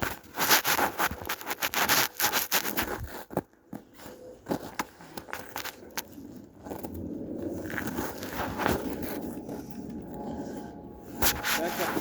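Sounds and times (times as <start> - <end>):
footsteps crunching on ground: 0.0 - 12.0.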